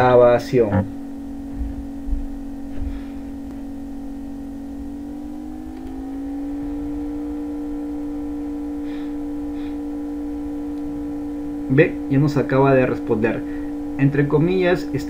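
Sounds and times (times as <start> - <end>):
motor humming drone: 0.0 - 15.0.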